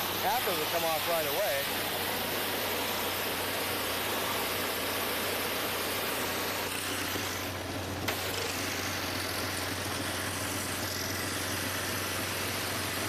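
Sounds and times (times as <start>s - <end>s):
engine droning: 0.0s - 13.0s
pressure washer spray hissing: 0.0s - 13.0s.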